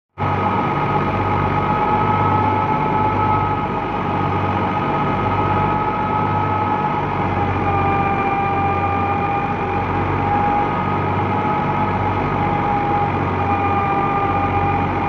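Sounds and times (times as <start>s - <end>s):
tractor diesel engine hum: 0.1s - 15.0s
thresher high whine: 0.2s - 15.0s.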